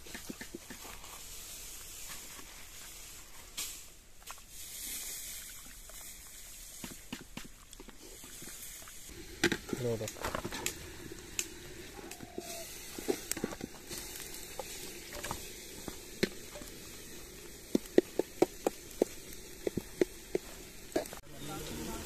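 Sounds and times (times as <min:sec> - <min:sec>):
faint hiss: 0:00.0 - 0:22.0
leaf crackle: 0:00.0 - 0:22.0.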